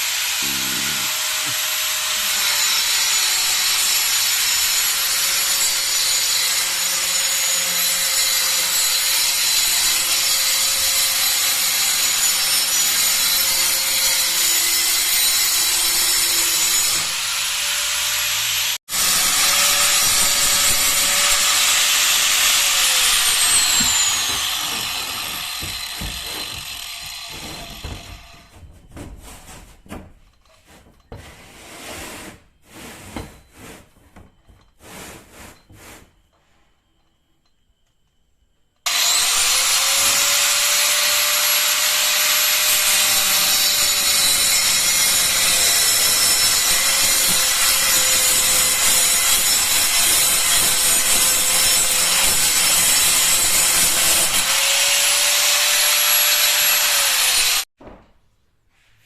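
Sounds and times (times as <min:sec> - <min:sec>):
power tool cutting cement board: 0:00.0 - 0:28.5, 0:38.9 - 0:57.7.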